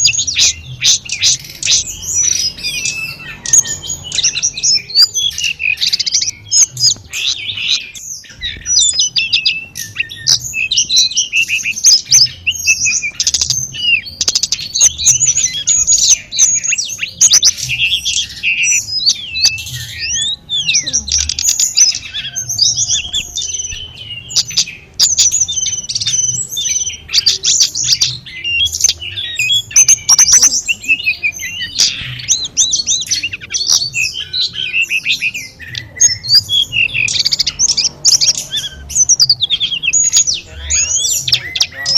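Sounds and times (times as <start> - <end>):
songbird chirping and trilling: 0.0 - 41.9.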